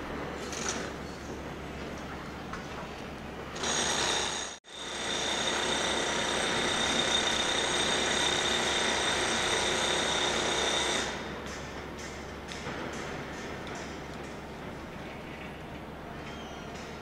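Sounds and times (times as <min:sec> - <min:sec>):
construction machinery whine: 0:03.3 - 0:17.0.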